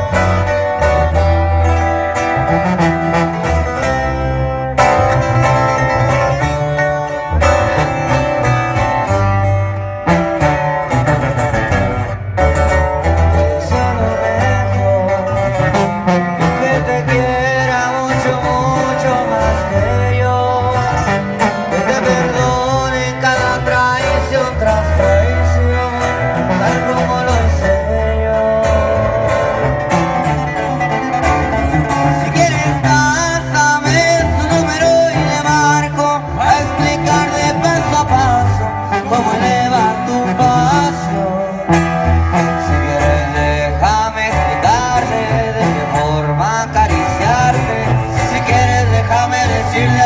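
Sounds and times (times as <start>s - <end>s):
deep bass line: 0.0s - 50.0s
plucked guitars melody: 0.0s - 50.0s.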